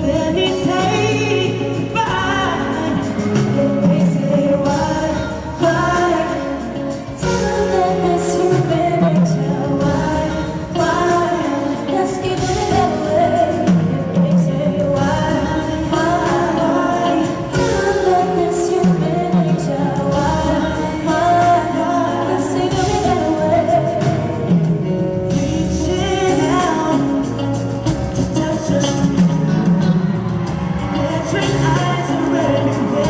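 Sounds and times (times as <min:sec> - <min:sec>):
backing band playing: 0:00.0 - 0:33.0
woman singing: 0:00.0 - 0:33.0.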